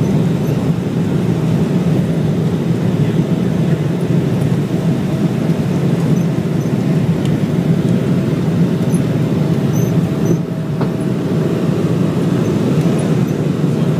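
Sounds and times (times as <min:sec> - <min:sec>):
jet engine cabin rumble: 0:00.0 - 0:13.9.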